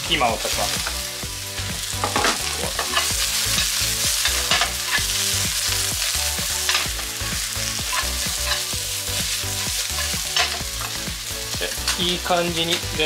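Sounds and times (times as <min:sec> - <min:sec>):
vegetables sizzling in pan: 0:00.0 - 0:13.0.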